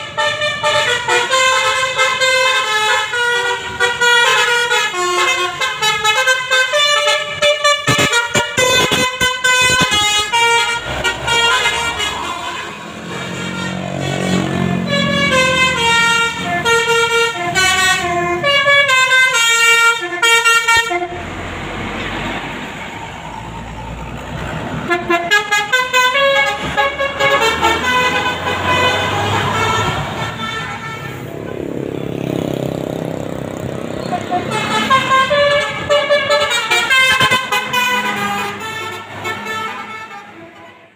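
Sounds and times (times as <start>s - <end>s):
musical bus horn: 0.0s - 21.4s, 24.7s - 31.8s, 33.7s - 40.9s
engine and road noise: 0.0s - 40.9s.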